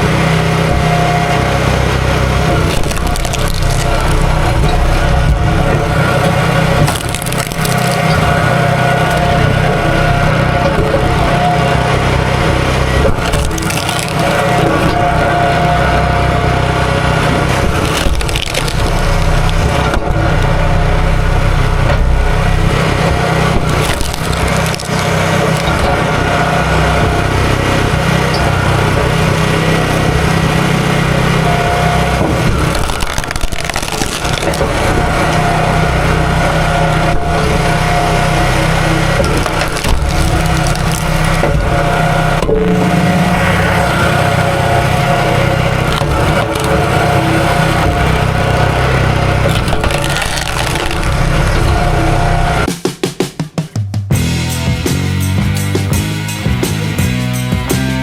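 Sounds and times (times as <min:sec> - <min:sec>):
small gas engine running: 0:00.0 - 0:52.7
wood splintering and cracking: 0:00.0 - 0:52.7.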